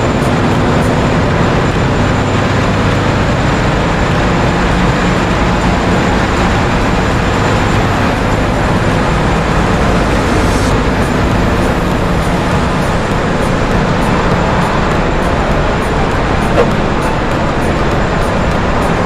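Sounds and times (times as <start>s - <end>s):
diesel engine machinery droning: 0.0s - 19.0s.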